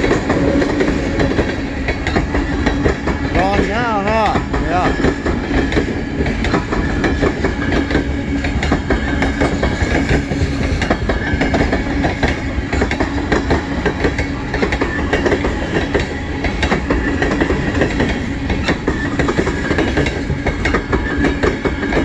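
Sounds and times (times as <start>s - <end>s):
freight train rumbling past: 0.0s - 22.0s
wheels clacking over rail joints: 0.0s - 22.0s.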